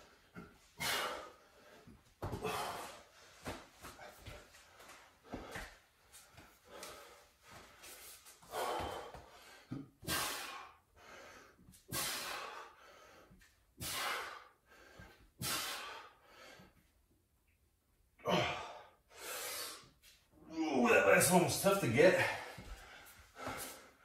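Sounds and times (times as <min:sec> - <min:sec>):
person breathing hard: 0:00.0 - 0:16.8, 0:18.3 - 0:20.0, 0:22.2 - 0:24.0.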